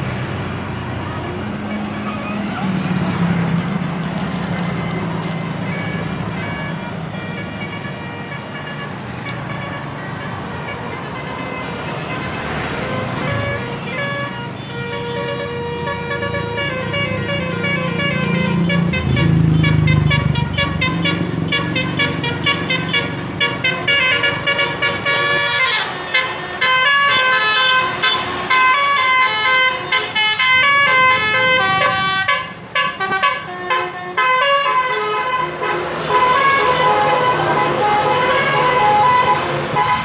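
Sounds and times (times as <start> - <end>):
musical bus air horn: 4.8 - 40.0.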